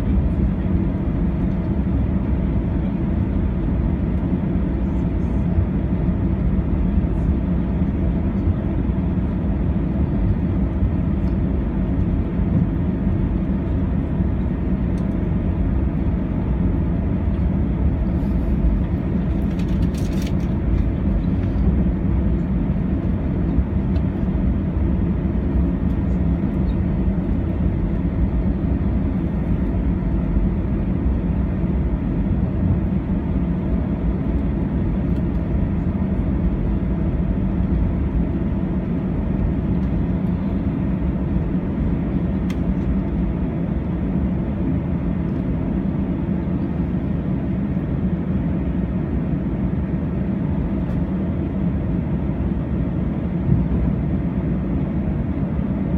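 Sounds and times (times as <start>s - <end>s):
aircraft engines droning in cabin: 0.0s - 55.9s.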